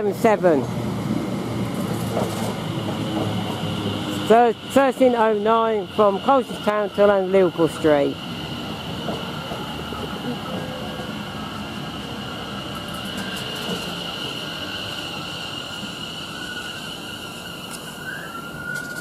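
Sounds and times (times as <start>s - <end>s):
electric train whine: 0.0s - 19.0s
train rumble: 0.0s - 19.0s.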